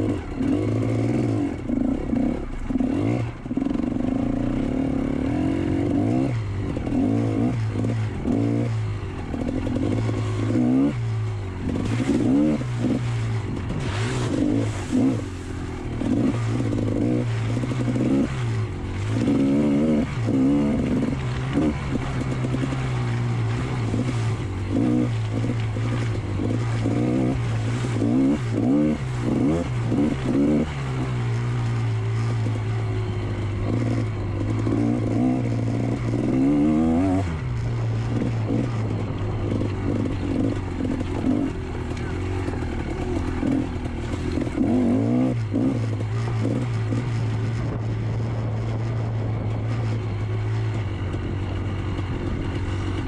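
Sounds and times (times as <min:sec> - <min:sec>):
two-stroke motocross engine revving: 0:00.0 - 0:53.0.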